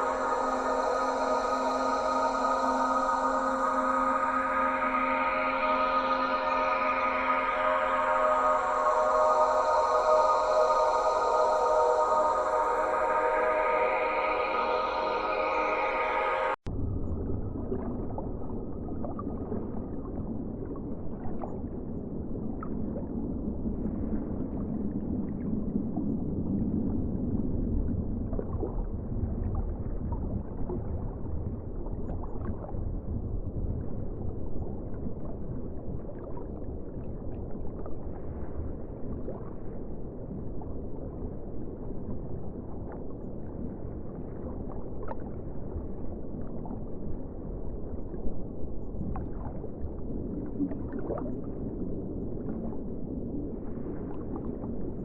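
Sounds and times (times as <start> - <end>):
muffled ocean water rumble: 0.0 - 55.0.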